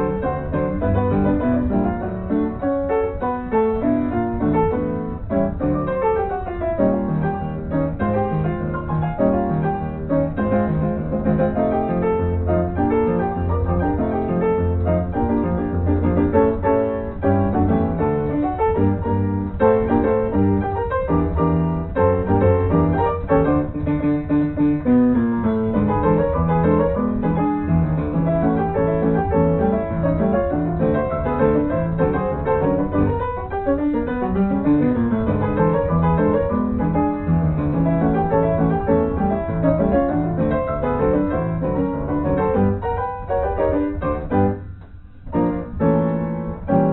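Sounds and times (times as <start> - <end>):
piano music: 0.0 - 46.9.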